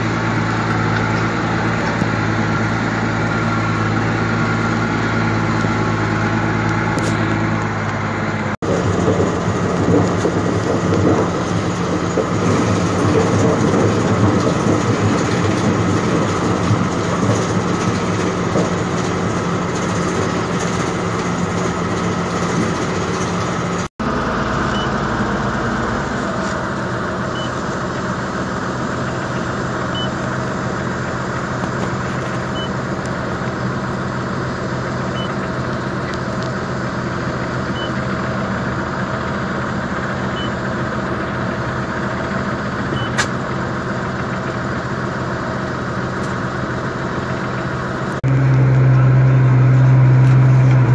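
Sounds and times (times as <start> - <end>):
tractor and harvester running: 0.0 - 50.9.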